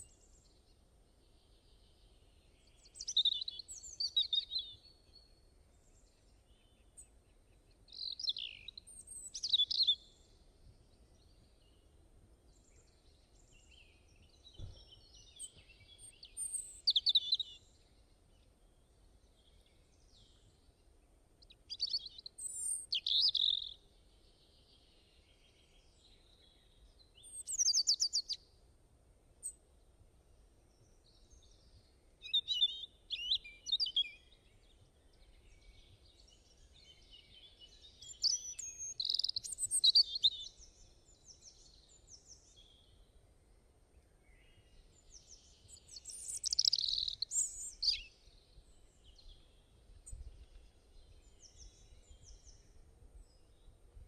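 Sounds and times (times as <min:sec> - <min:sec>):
faint steady background noise: 0:00.0 - 0:54.0
songbirds chirping and trilling: 0:00.0 - 0:54.0.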